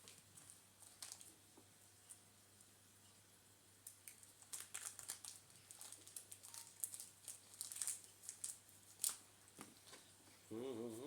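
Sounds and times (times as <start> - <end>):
light clicks and crinkles: 0.0 - 3.2, 3.8 - 10.2.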